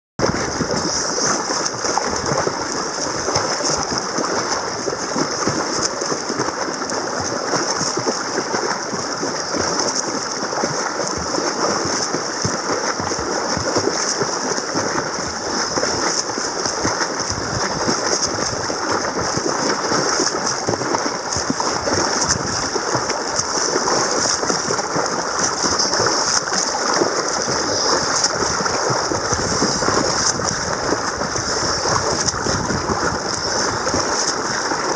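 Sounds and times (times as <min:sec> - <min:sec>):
water splashing from swimming strokes: 0:00.2 - 0:34.9.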